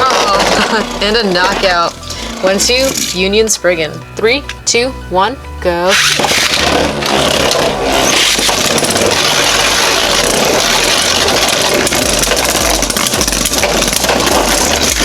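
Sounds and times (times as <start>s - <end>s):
spinning tops grinding: 0.0s - 4.0s, 5.9s - 15.0s.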